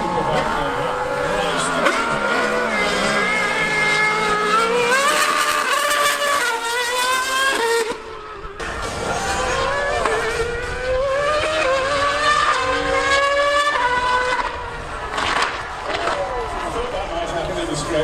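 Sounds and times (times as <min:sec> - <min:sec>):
racing car engine at high revs: 0:00.0 - 0:18.0
superbike engine racing: 0:00.0 - 0:18.0.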